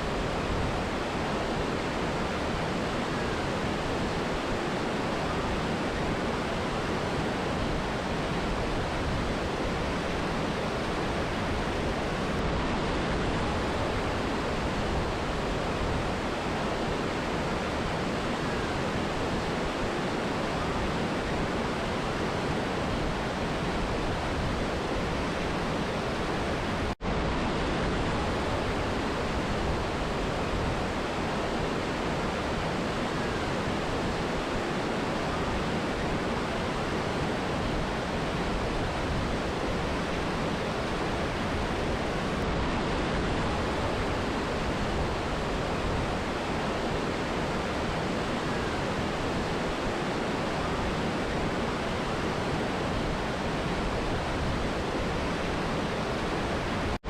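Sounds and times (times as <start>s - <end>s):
river and waterfall rushing: 0.0s - 57.0s.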